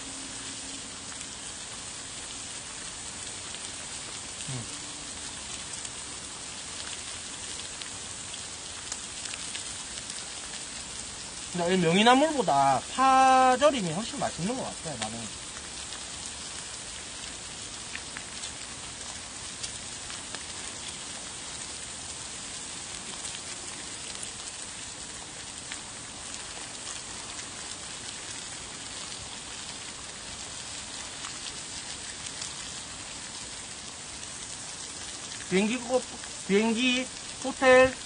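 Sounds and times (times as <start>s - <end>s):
meat sizzling on grill plate: 0.0s - 38.0s.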